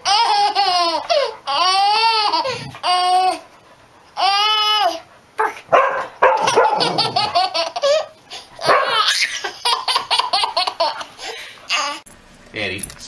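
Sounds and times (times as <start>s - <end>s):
baby laughing: 0.0s - 3.5s, 4.2s - 5.6s, 6.4s - 12.0s.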